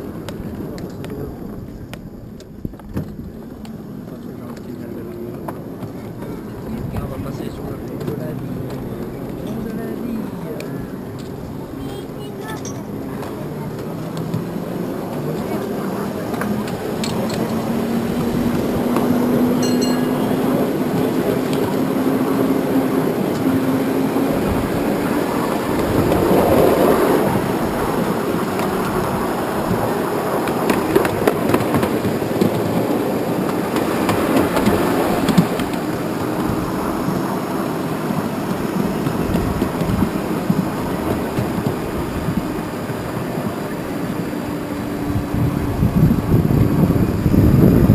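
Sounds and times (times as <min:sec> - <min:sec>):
miniature tram drive humming: 0:00.0 - 0:47.9
wheels clicking on rails: 0:00.0 - 0:47.9
wheels rumbling on track: 0:00.0 - 0:47.9.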